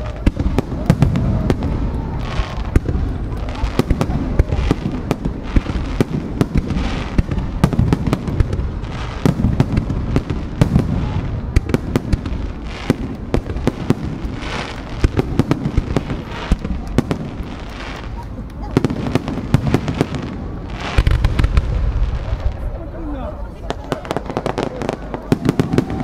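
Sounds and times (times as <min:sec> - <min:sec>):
firework crackling: 0:00.0 - 0:26.0.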